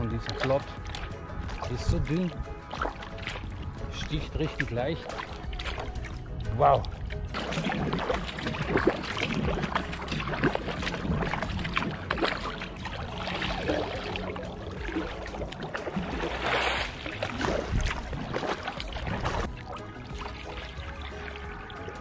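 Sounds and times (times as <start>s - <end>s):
kayak paddle splashing water: 0.0s - 22.0s.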